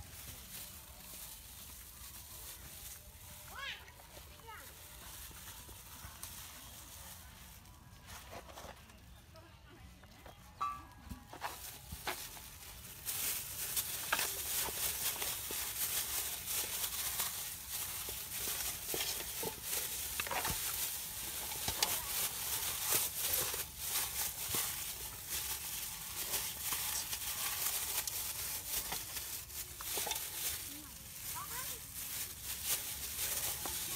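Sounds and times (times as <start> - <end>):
plastic bag crinkling and rustling: 0.0 - 9.0, 11.2 - 33.9.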